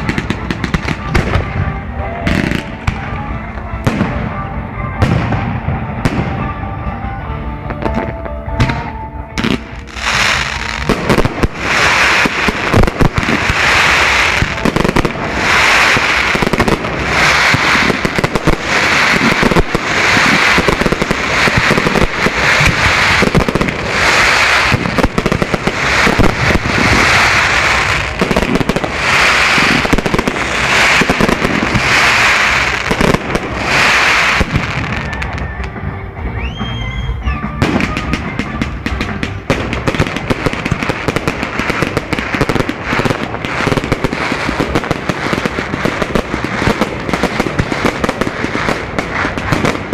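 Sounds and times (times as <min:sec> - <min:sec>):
fireworks bursts and crackling: 0:00.0 - 0:49.9.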